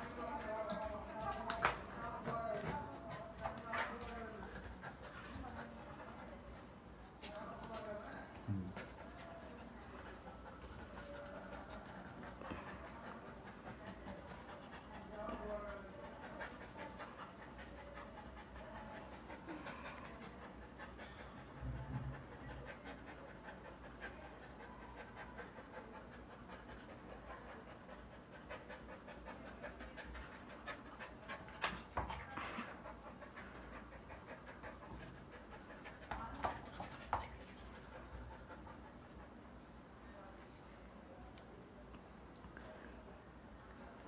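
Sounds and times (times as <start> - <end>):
puppy panting: 1.4 - 6.9, 8.7 - 39.4.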